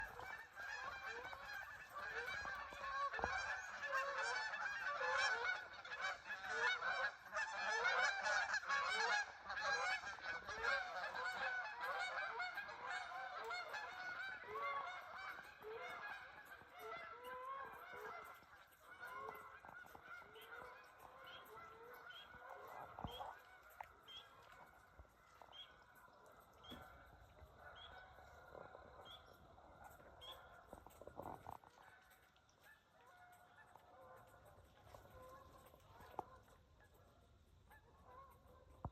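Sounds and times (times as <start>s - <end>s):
flock of geese honking: 0.0s - 38.9s.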